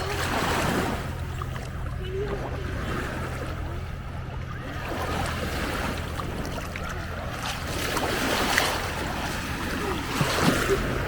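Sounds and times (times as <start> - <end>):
lake waves lapping at shore: 0.0 - 11.0
steady low hum: 0.0 - 11.0.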